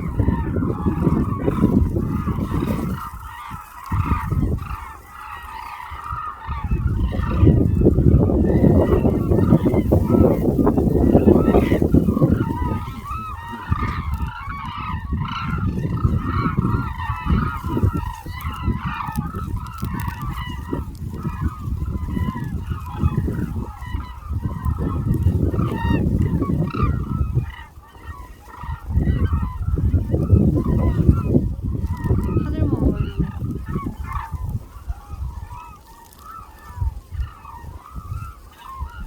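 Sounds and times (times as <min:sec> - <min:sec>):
flock of cranes calling: 0:00.0 - 0:39.0
wind rumble on microphone: 0:00.0 - 0:39.0.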